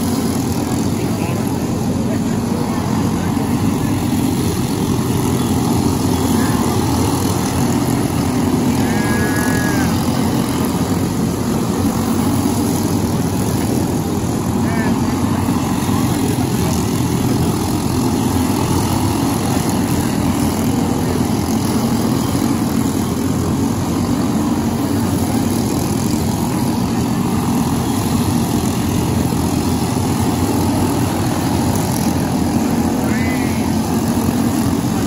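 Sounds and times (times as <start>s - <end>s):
go-kart engines droning: 0.0s - 35.0s.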